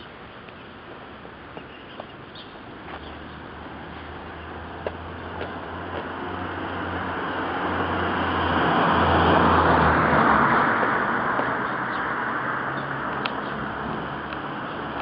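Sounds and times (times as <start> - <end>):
low traffic hum: 0.0 - 15.0
car passing: 2.7 - 15.0.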